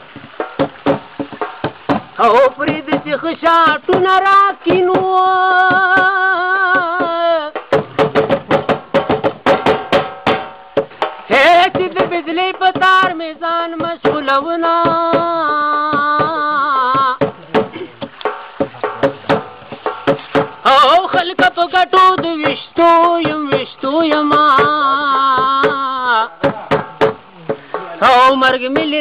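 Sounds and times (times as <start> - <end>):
fast rhythmic percussion: 0.0 - 29.0
man singing unaccompanied: 0.6 - 9.8, 10.8 - 29.0.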